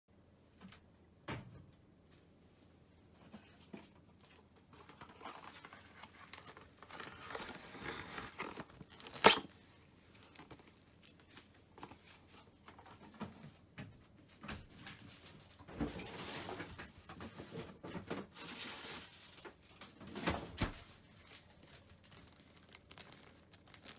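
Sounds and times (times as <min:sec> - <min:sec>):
rustling and crinkling: 0:02.0 - 0:23.9.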